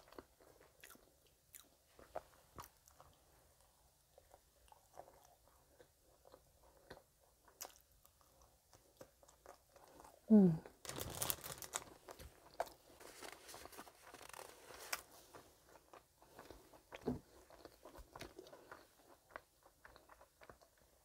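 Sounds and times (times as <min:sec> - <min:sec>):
chewing crusty pastry: 0:00.0 - 0:21.0.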